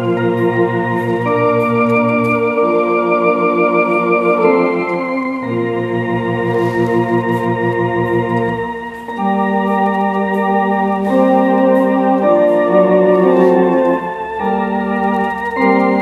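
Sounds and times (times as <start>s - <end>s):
electronic organ playing hymn chords: 0.0s - 16.0s.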